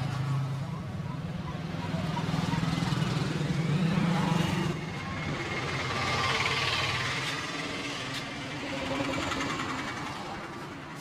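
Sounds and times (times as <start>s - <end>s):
street traffic noise: 0.0s - 11.0s
vehicle engine running: 0.0s - 11.0s.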